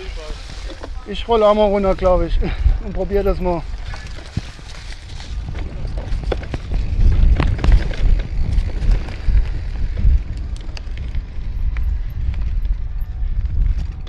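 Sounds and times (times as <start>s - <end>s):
wind buffeting microphone: 0.0s - 14.0s
bike knocking and rattling: 0.1s - 14.0s.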